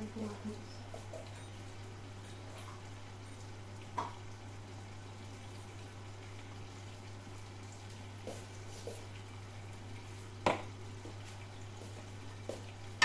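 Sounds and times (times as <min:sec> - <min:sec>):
bubbling hiss in frying pan: 0:00.0 - 0:13.0.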